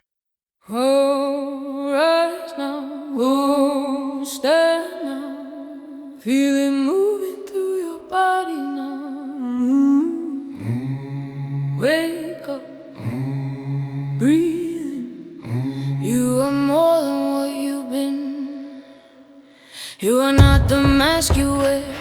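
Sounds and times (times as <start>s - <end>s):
wordless female vocal chant: 0.7s - 22.0s.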